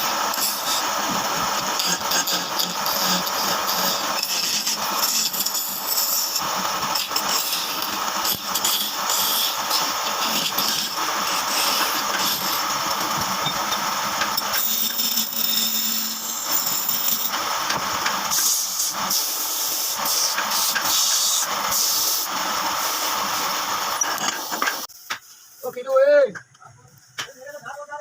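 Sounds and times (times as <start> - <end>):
woodworking power tool running: 0.0 - 24.9.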